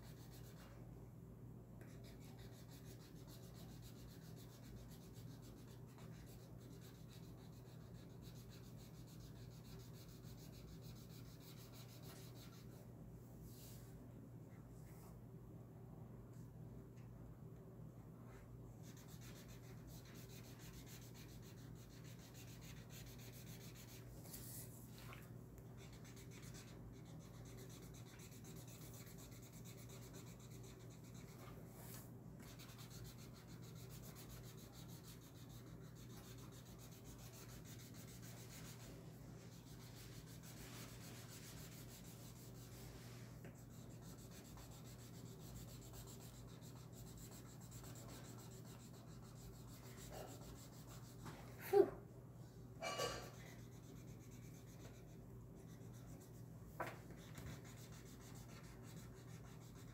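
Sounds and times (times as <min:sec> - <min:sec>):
marker scratching on paper: 0:01.9 - 0:12.8, 0:18.8 - 0:25.1, 0:25.8 - 0:38.9, 0:39.5 - 0:42.9, 0:43.5 - 0:51.4, 0:52.8 - 0:59.9.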